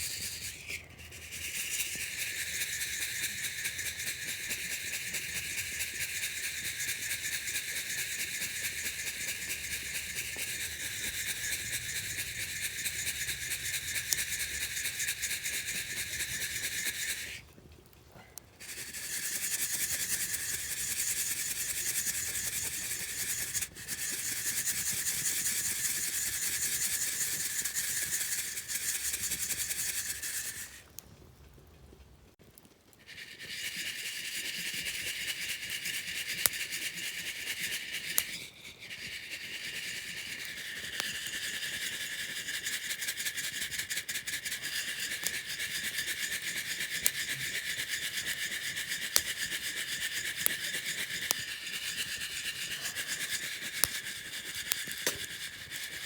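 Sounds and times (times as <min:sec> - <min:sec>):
coffee beans rattling in mesh: 0:00.0 - 0:17.5, 0:18.6 - 0:30.9, 0:33.1 - 0:56.0.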